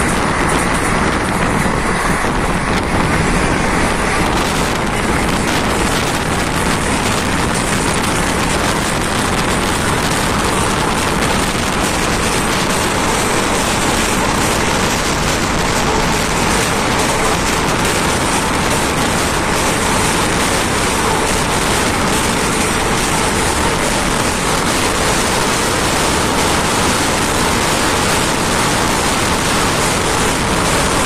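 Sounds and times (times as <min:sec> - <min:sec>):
train wheel and track noise: 0:00.0 - 0:31.0
wind buffeting microphone: 0:00.0 - 0:31.0.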